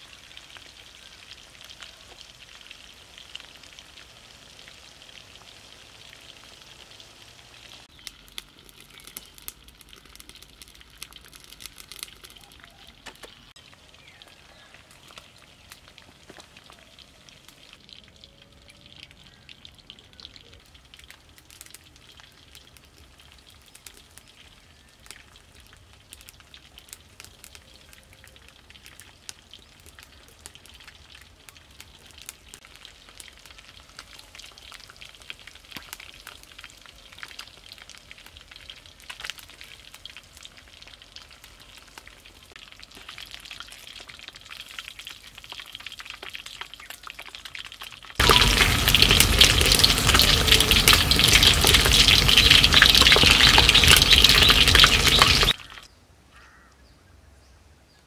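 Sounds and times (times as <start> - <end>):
deep-frying sizzle with pops: 0.0 - 56.0.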